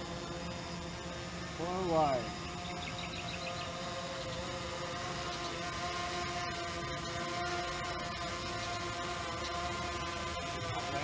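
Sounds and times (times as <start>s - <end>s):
quadcopter buzzing whine: 0.0s - 11.0s.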